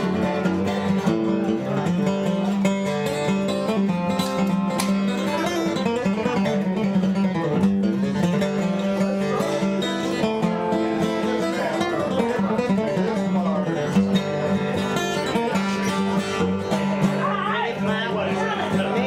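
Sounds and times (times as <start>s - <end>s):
acoustic guitar solo: 0.0s - 19.0s.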